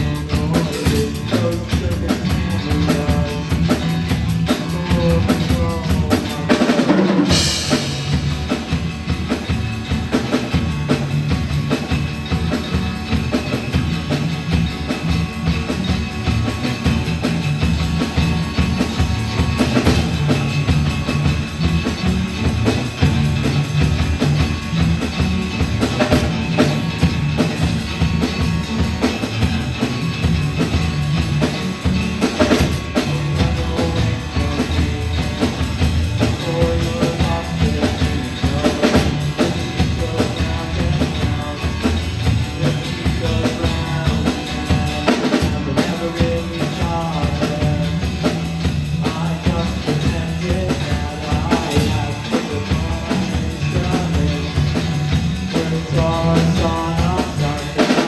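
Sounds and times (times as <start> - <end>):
drum kit beat: 0.0 - 58.0
rock band playing: 0.0 - 58.0.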